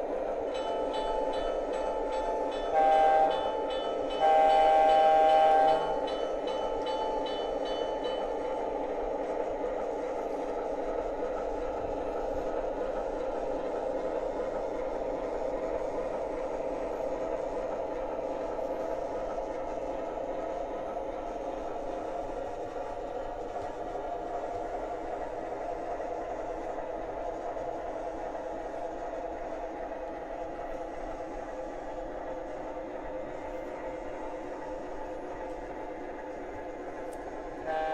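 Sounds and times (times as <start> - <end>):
model train wheels rumbling on rail: 0.0 - 37.9.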